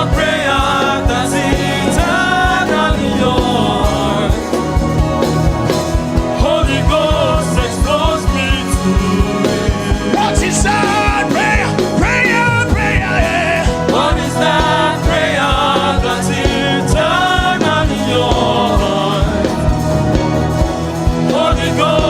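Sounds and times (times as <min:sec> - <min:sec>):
person singing gospel: 0:00.0 - 0:20.3, 0:21.0 - 0:22.0
steady drum beat: 0:00.0 - 0:22.0
sustained chords: 0:00.0 - 0:22.0.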